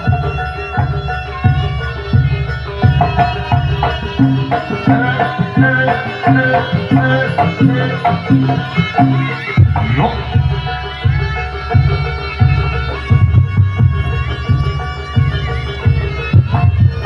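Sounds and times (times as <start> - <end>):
hand drums in driving rhythm: 0.0 - 17.0
ringing gamelan tones: 0.0 - 17.0.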